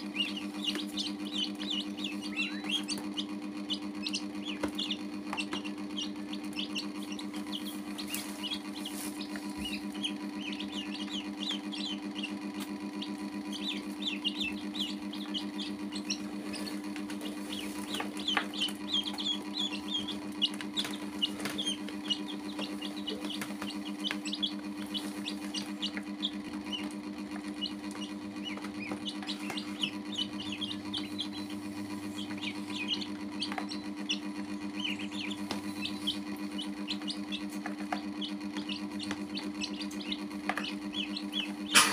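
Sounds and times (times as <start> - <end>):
chicks and ducklings peeping: 0.0 - 41.9
steady low hum: 0.0 - 41.9.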